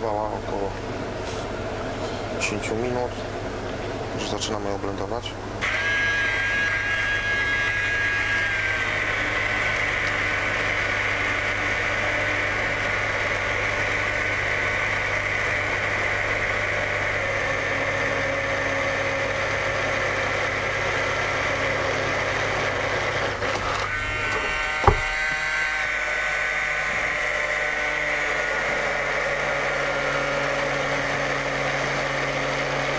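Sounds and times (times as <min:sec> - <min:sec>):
electric blender running: 0:05.6 - 0:32.9.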